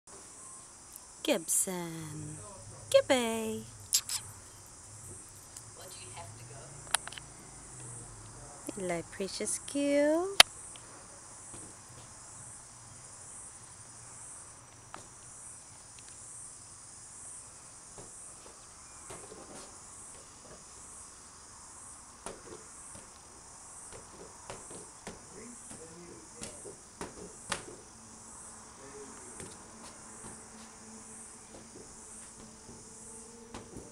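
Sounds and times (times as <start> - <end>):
insects chirping: 0.1 - 33.9.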